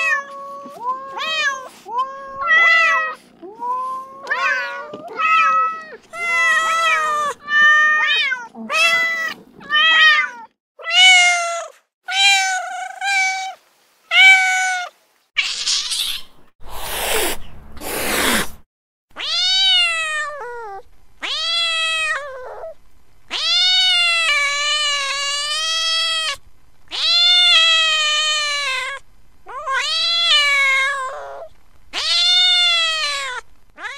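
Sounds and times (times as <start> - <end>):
cat meowing: 0.0 - 15.9, 19.2 - 33.9.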